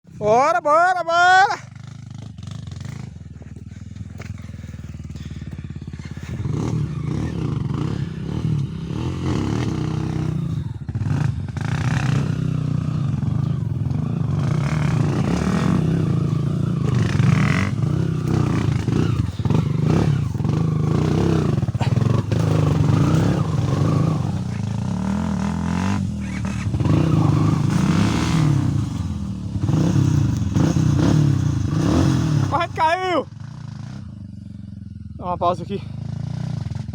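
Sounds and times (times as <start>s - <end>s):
motorcycle engines revving: 0.1s - 36.9s.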